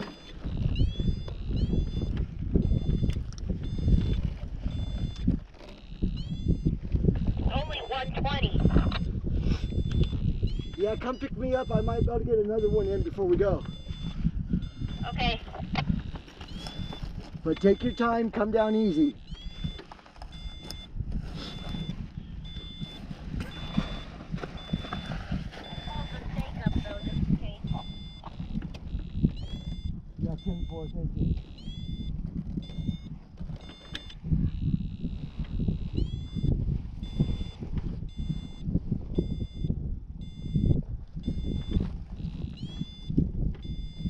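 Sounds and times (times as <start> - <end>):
electronic beeper beeping: 0.0 - 44.0
wind buffeting microphone: 0.0 - 44.0.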